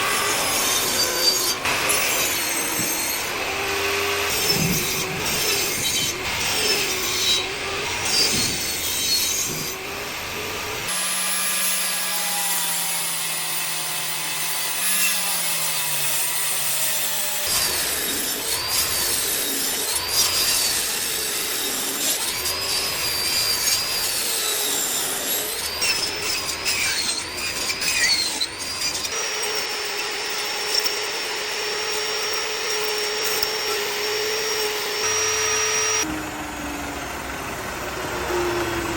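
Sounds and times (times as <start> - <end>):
saw scraping wood: 0.0 - 36.1.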